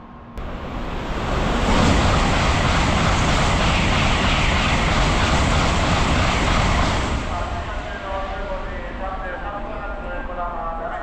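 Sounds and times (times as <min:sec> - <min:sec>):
bullet train passing at speed: 0:00.0 - 0:11.0.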